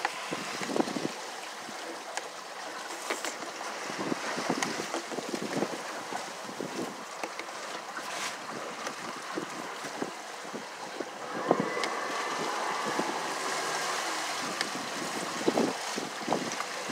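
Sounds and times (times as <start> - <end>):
wind buffeting microphone: 0.0 - 2.1, 3.4 - 7.2, 8.0 - 16.9
water slapping against boat hull: 0.0 - 16.9.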